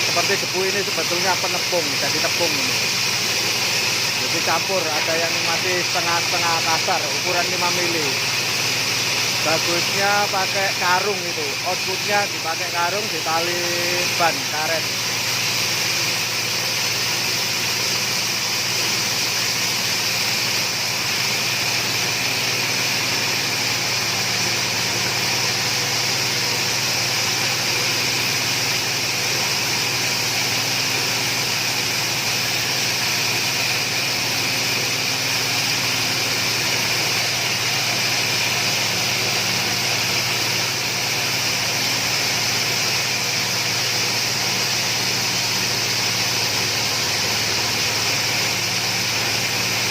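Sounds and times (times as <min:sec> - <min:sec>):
grass chopper machine running: 0:00.0 - 0:49.9.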